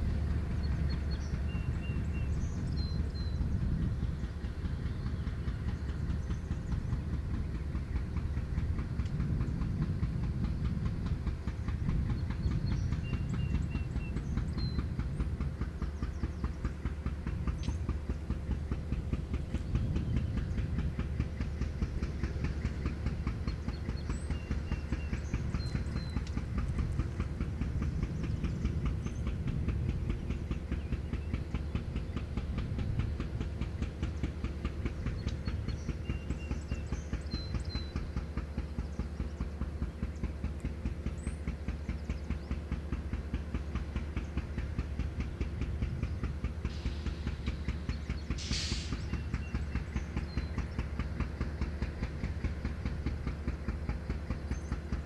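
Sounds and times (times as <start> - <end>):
train rumbling: 0.0 - 55.0
wheels clicking over rails: 0.0 - 55.0.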